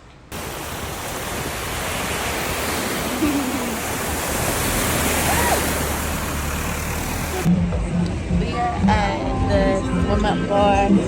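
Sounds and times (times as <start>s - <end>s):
loud steady rushing noise: 0.3s - 9.6s.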